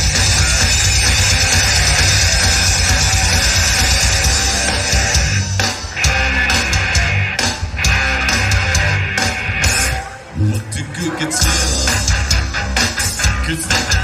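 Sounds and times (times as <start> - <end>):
drum kit: 0.0 - 10.1, 11.4 - 14.0
electric guitar: 0.0 - 14.0
live rock band playing: 0.0 - 14.0.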